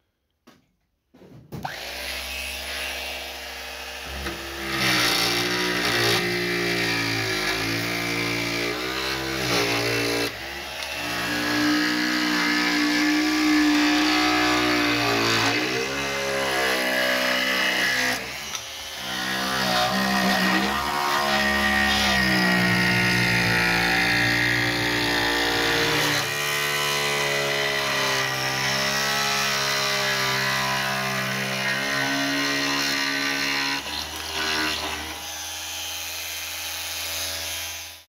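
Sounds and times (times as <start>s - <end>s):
jigsaw cutting plywood: 1.5s - 38.0s.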